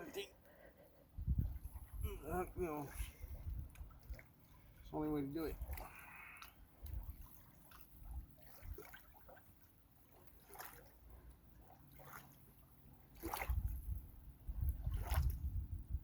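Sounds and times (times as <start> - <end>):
water lapping: 0.0 - 15.6.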